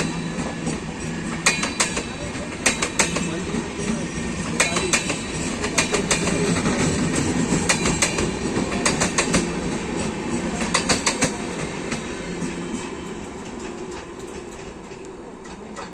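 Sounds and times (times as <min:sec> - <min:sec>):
train rumble: 0:00.0 - 0:15.9
train wheels clattering on rails: 0:00.0 - 0:15.9.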